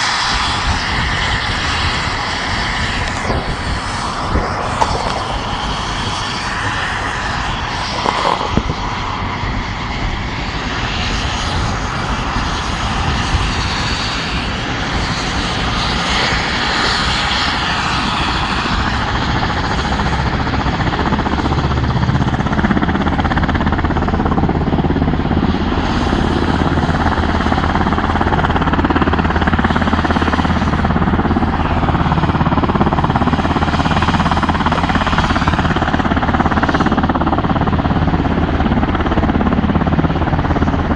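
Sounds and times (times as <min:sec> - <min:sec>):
turbine aircraft engine running: 0:00.0 - 0:40.9.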